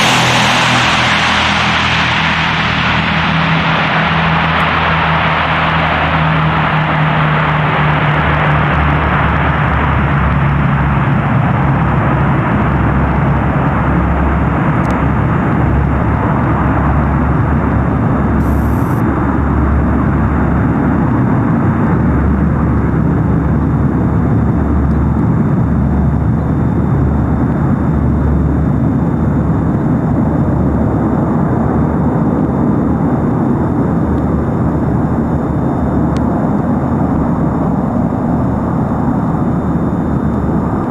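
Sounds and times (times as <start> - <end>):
turboprop aircraft low hum: 0.0 - 40.9.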